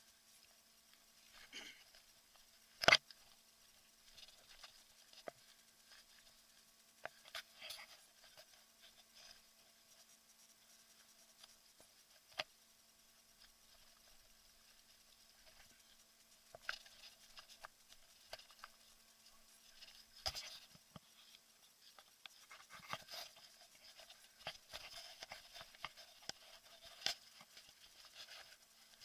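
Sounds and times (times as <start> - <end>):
faint rustling: 0.0 - 29.0.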